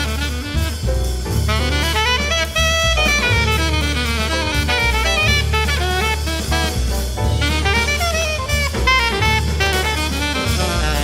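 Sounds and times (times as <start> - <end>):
bass line: 0.0 - 11.0
drums: 0.0 - 11.0
saxophone melody: 0.0 - 11.0.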